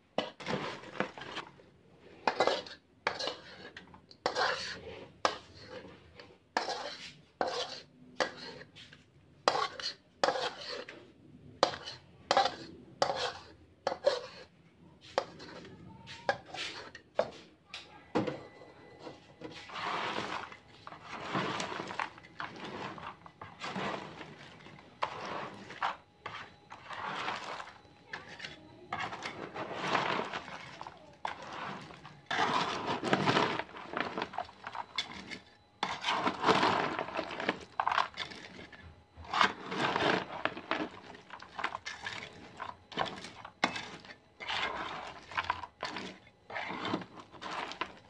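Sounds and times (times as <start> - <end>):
metal spoon scraping a wok: 0.2 - 14.5, 15.1 - 17.5, 18.9 - 48.0.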